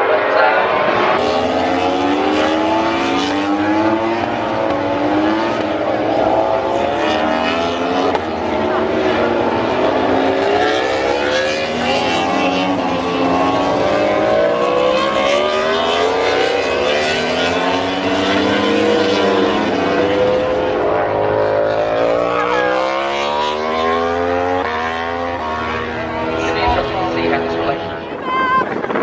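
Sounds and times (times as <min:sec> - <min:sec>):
racing motorcycle engines: 0:00.0 - 0:29.0.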